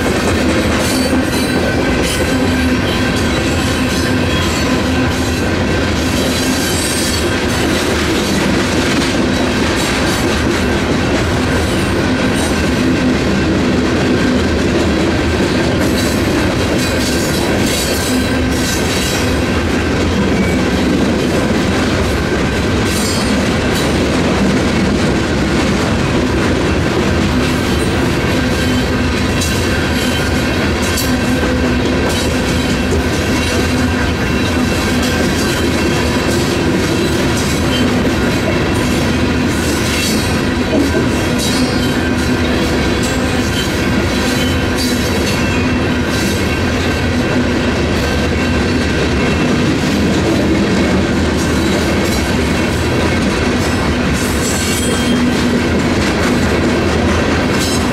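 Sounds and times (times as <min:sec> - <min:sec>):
crossing bells ringing: 0:00.0 - 0:24.5, 0:26.0 - 0:50.6, 0:51.3 - 0:57.9
freight train wheels clacking: 0:00.0 - 0:57.9.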